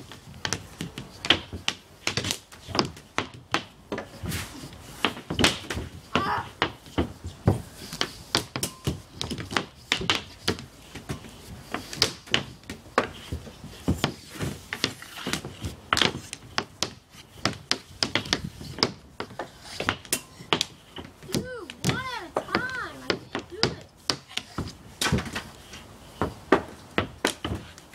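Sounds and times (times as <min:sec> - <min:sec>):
hockey sticks and ball knocking: 0:00.1 - 0:27.9.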